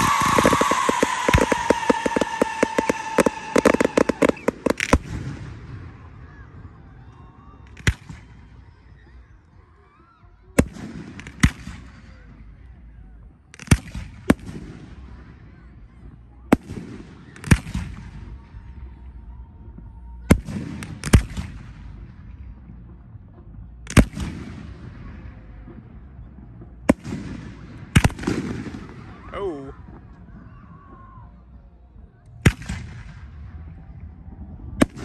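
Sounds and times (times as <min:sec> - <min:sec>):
fireworks bursting bangs: 0:00.0 - 0:09.3, 0:10.6 - 0:31.5, 0:32.2 - 0:35.0.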